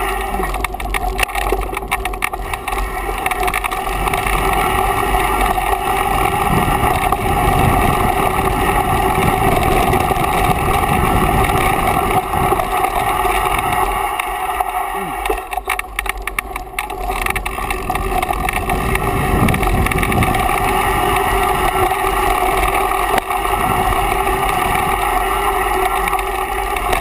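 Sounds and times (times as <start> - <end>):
wind rush over microphone: 0.0 - 14.7, 15.3 - 27.0
bike rattling over bumps: 0.0 - 27.0
tyres rumbling on dirt: 0.0 - 27.0.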